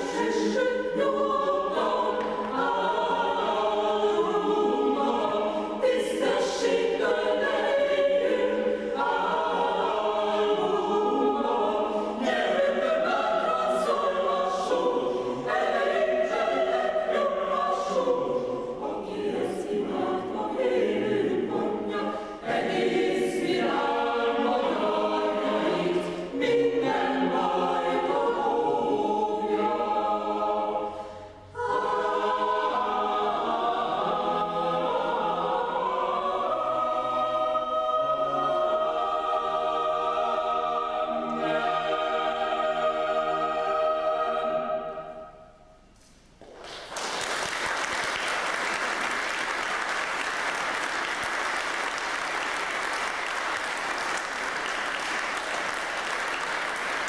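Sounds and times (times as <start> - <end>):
choir singing a cappella: 0.0 - 45.9, 48.2 - 57.0.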